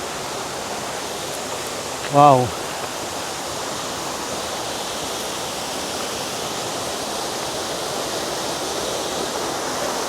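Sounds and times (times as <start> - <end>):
waterfall rushing: 0.1 - 9.2.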